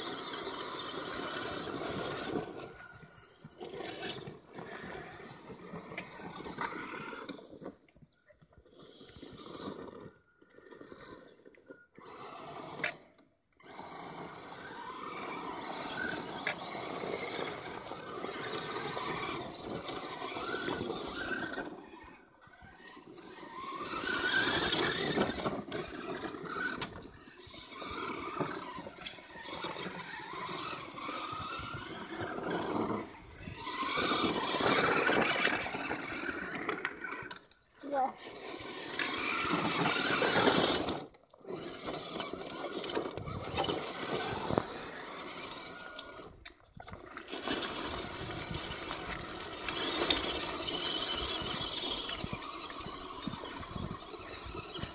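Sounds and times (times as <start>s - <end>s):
electric motors whining: 0.0s - 54.9s.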